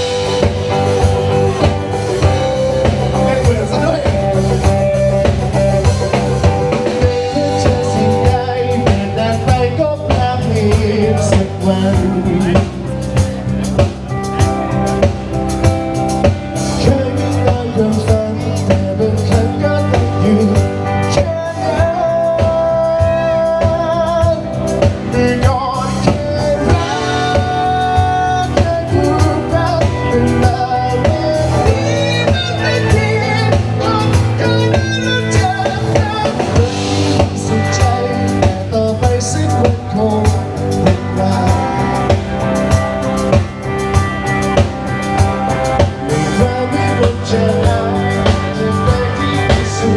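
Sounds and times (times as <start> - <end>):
person singing: 0.0 - 13.8, 16.6 - 43.5, 45.2 - 49.9
live band playing: 0.0 - 49.9.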